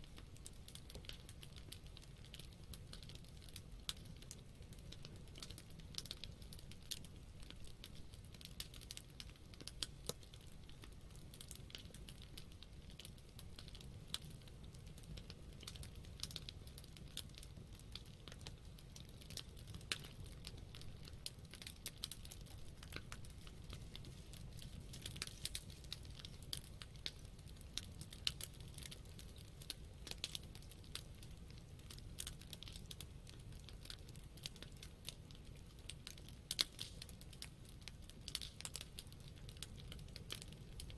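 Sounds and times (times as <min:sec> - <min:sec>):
campfire pops and snaps: 0:00.0 - 0:40.9
low rumble of burning fire: 0:00.0 - 0:40.9.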